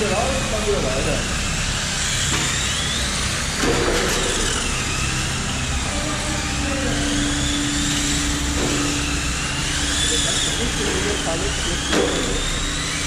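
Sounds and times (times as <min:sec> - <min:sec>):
electric motors whining: 0:00.0 - 0:13.0
steady hum: 0:00.0 - 0:13.0.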